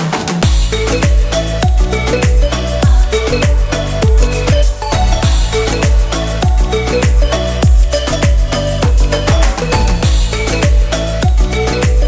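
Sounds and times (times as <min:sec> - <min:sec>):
electronic dance music: 0:00.0 - 0:12.0
synth notes: 0:00.0 - 0:12.0
deep kick drum beat: 0:00.4 - 0:12.0.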